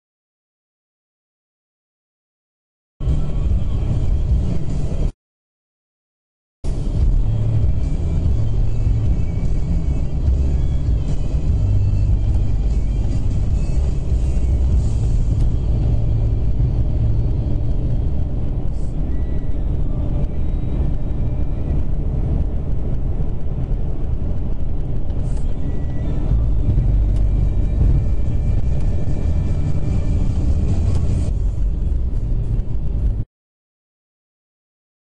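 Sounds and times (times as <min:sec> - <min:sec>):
tyre road noise rumble: 0:03.0 - 0:05.1, 0:06.6 - 0:33.3.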